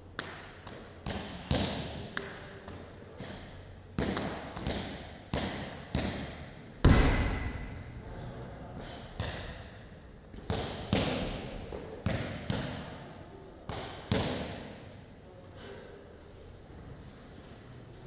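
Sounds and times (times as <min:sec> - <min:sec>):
heavy thuds echoing in a hall: 0:00.2 - 0:15.0.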